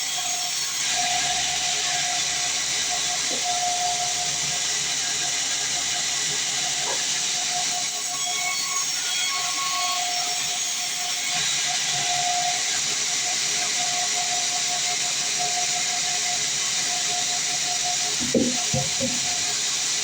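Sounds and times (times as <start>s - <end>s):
saw blade cutting log: 0.7s - 12.9s, 15.4s - 20.0s.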